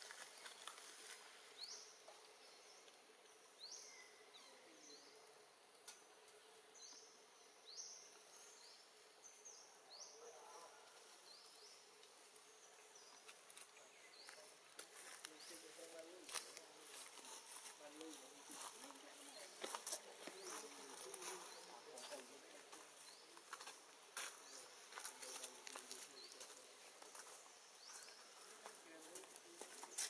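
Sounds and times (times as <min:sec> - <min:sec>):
soft steady hiss: 0:00.0 - 0:30.0.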